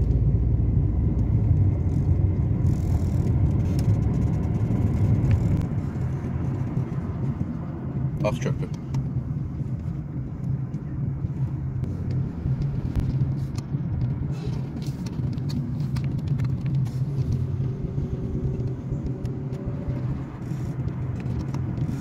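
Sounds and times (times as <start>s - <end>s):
car engine hum: 0.0s - 22.0s
tyre noise on road: 0.0s - 22.0s.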